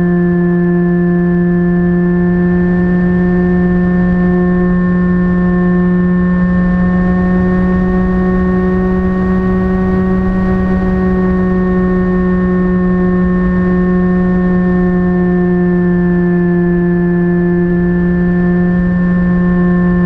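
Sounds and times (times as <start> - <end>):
wind rumble on microphone: 1.2 - 20.0
electric motor and propeller drone: 1.6 - 20.0.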